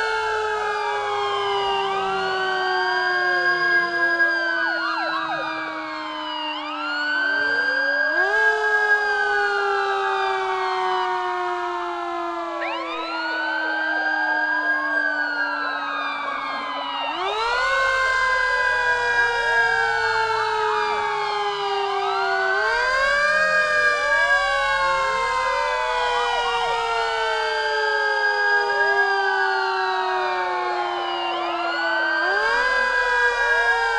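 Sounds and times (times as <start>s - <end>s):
police sirens wailing: 0.0s - 33.9s.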